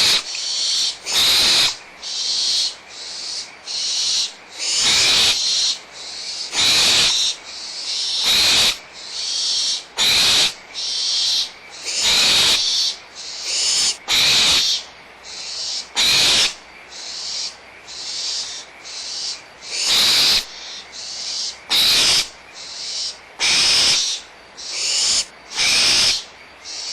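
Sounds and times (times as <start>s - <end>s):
owl nestlings hissing begging calls: 0.0s - 26.9s.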